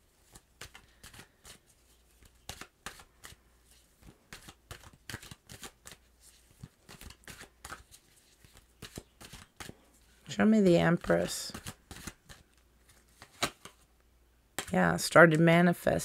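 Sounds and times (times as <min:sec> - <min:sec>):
cards being shuffled: 0:00.2 - 0:13.9.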